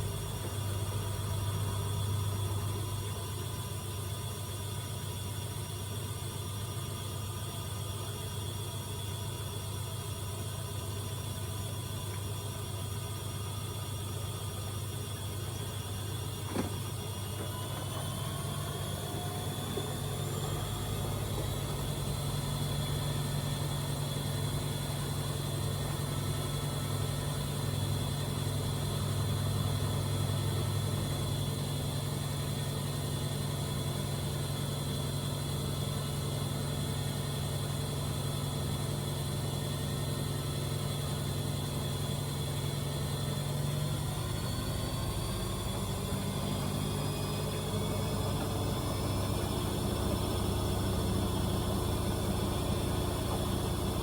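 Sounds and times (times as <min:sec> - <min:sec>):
washing machine motor hum: 0:00.0 - 0:05.7, 0:10.0 - 0:54.0.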